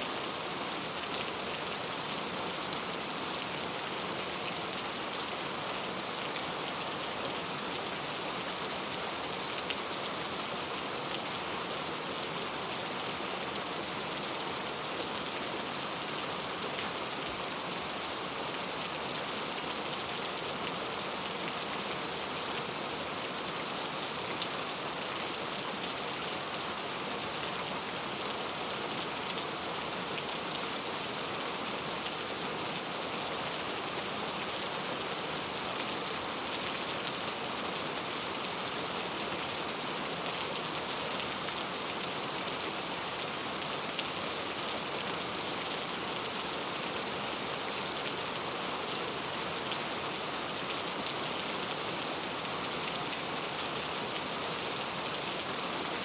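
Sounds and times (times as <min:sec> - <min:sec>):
heavy rain on a surface: 0:00.0 - 0:56.0.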